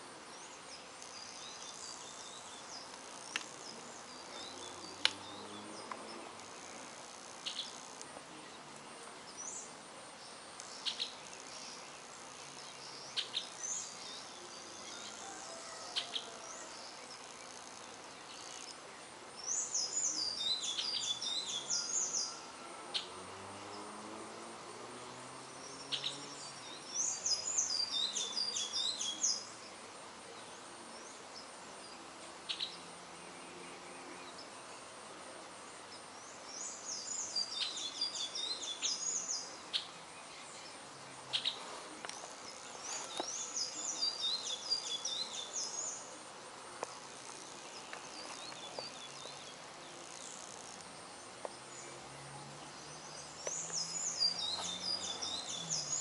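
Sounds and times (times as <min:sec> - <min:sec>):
faint buzz of bees: 0:00.0 - 0:56.0
songbird chirping: 0:00.0 - 0:56.0.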